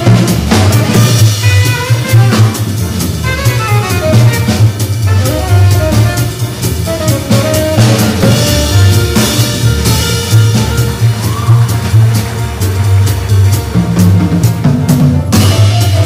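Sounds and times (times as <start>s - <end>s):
drum kit with cymbals: 0.0s - 16.0s
walking bass line: 0.0s - 16.0s.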